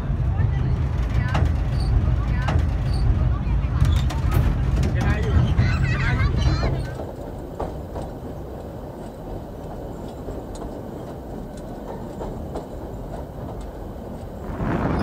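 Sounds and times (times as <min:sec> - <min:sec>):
train cars rumbling over viaduct: 0:00.0 - 0:15.0.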